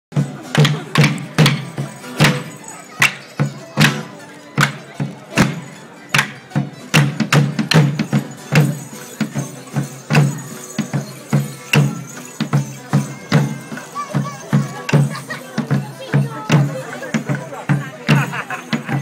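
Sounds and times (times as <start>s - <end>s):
folk tune with held notes: 0.1s - 19.0s.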